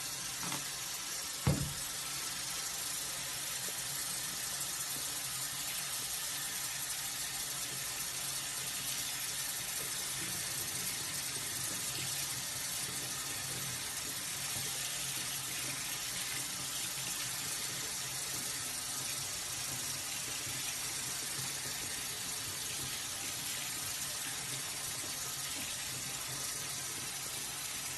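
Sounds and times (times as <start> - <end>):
water running from a tap: 0.0 - 27.9.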